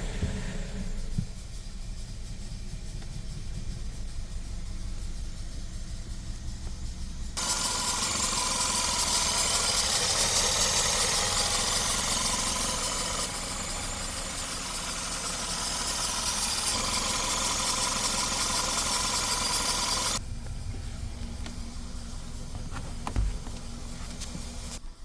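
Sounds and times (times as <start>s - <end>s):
hiss: 0.0s - 20.2s
car engine idling: 0.0s - 25.0s.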